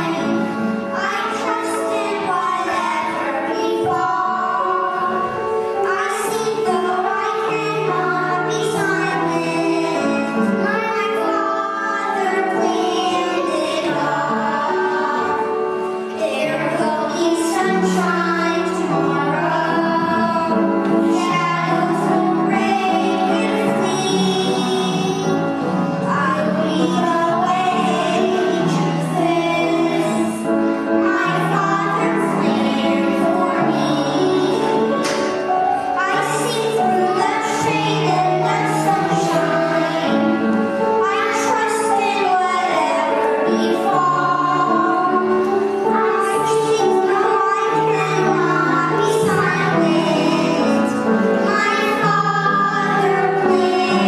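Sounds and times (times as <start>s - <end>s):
children singing: 0.0s - 54.0s
musical accompaniment with low notes: 0.0s - 54.0s.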